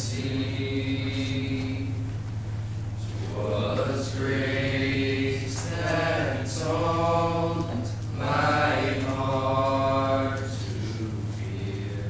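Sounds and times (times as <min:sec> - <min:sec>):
male voices singing a cappella: 0:00.0 - 0:02.2, 0:03.0 - 0:12.0
steady low hum: 0:00.0 - 0:12.0.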